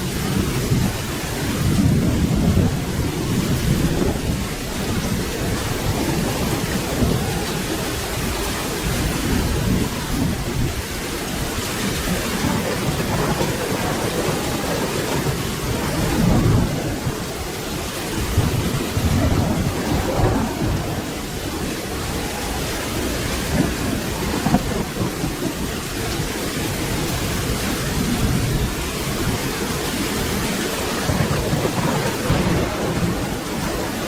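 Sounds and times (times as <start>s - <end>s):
low thunder rumbling: 0.0s - 34.0s
steady rain: 0.0s - 34.0s.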